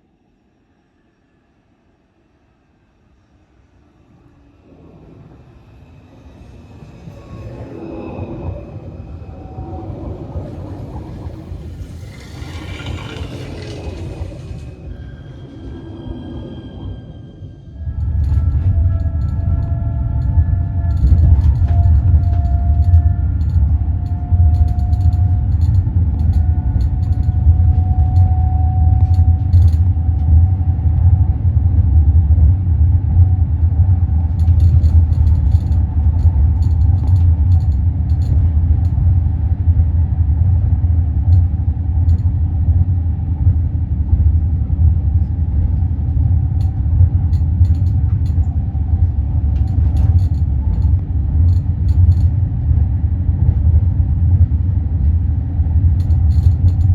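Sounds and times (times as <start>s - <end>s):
electric train rumbling: 0.0s - 56.9s.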